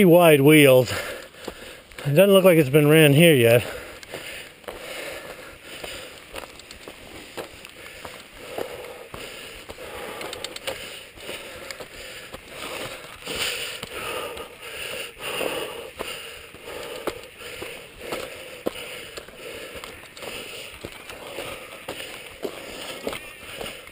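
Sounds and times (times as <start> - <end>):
bike tyres rolling on gravel: 0.0 - 23.9
footsteps crunching on gravel: 0.2 - 23.9
small irregular clicks: 0.9 - 2.1, 3.9 - 15.1, 15.9 - 23.9.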